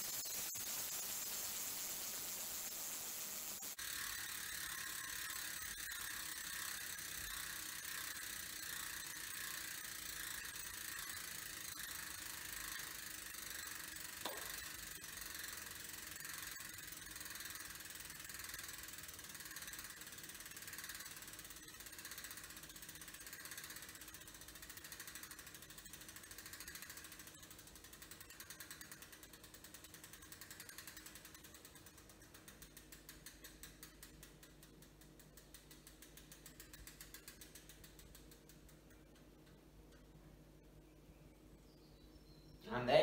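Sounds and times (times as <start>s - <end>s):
bicycle freehub clicking: 0.0s - 40.7s.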